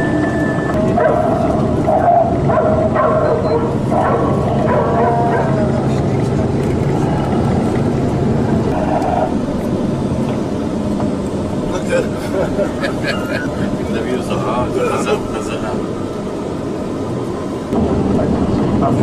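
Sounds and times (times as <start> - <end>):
voices: 0.0 - 9.6, 11.5 - 19.0
vehicle cabin rumble: 0.0 - 19.0.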